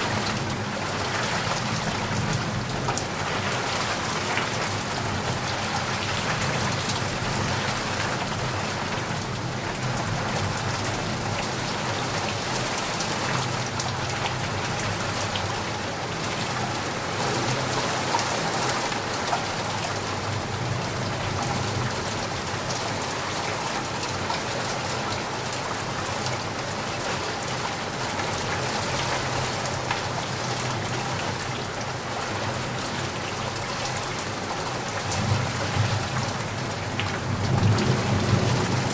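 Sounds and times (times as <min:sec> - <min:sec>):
rainfall: 0:00.0 - 0:38.9.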